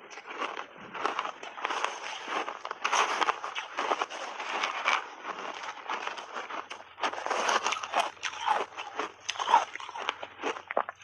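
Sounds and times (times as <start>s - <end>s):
ice crunching while chewed: 0.0s - 11.0s.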